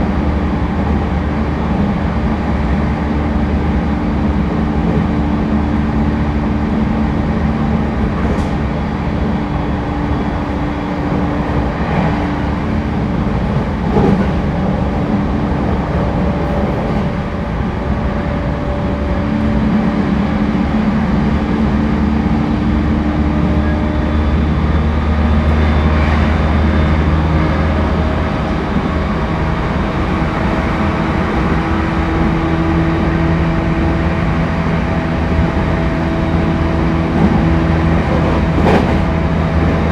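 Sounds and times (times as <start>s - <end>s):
train hums: 0.0s - 39.9s
train wheels rumbling on rail: 0.0s - 39.9s.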